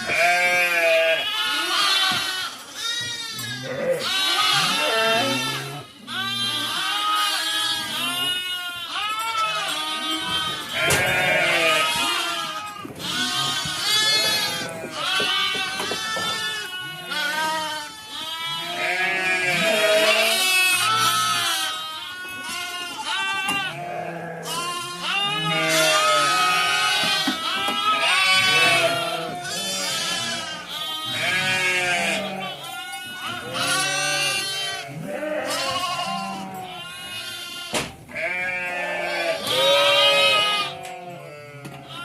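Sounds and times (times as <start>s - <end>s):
sheep and goats bleating: 0.0s - 42.0s.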